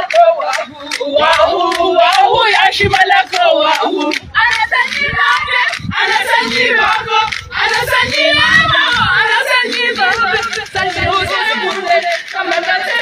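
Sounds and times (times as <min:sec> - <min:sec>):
crowd singing together: 0:00.0 - 0:13.0.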